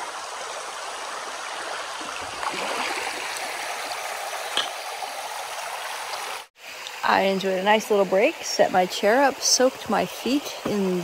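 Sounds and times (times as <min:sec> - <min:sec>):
water babbling over stones: 0:00.0 - 0:11.0.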